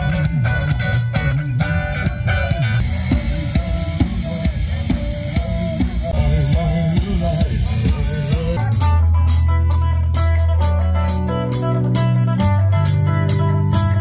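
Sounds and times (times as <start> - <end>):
rock drum beat: 0.0 - 14.0
wavering melodic lead line: 0.0 - 14.0.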